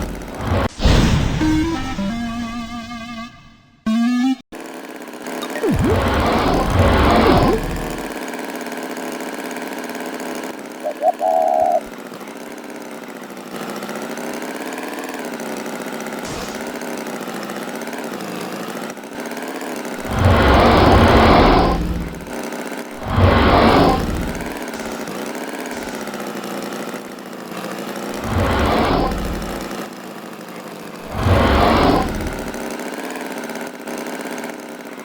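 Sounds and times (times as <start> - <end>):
engine running and revving: 0.0 - 35.0.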